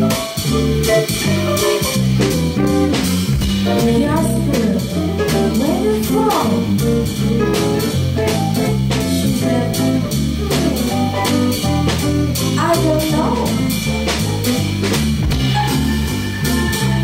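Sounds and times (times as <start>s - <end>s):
bass line: 0.0s - 17.0s
drum kit beat: 0.0s - 17.0s
electric guitar bending notes: 0.0s - 17.0s.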